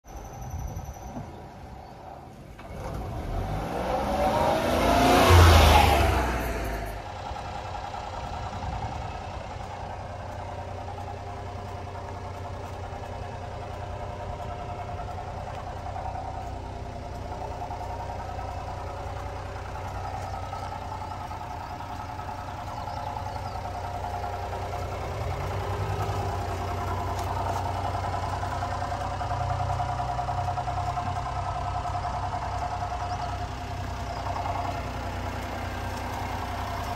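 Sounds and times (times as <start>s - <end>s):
small truck engine idling: 0.1s - 36.9s.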